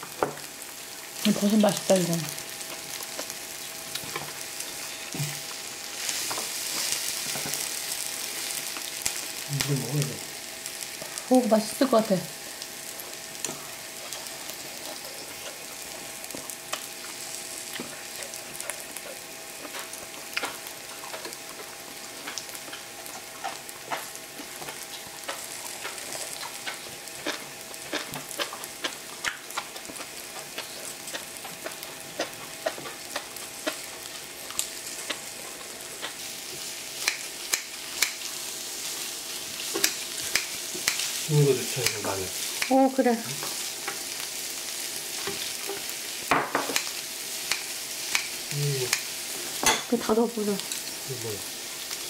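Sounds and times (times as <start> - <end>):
meat sizzling on a grill: 0.0 - 52.0.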